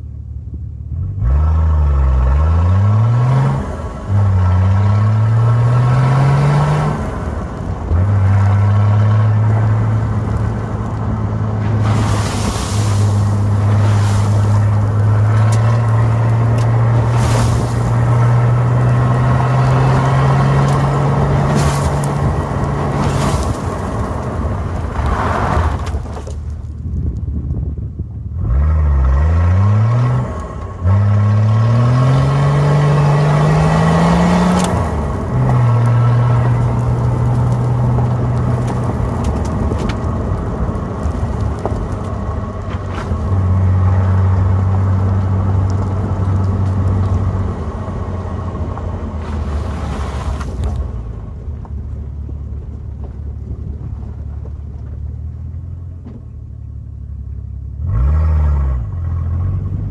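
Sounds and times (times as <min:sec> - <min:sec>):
diesel engine driving: 0:00.0 - 0:59.9.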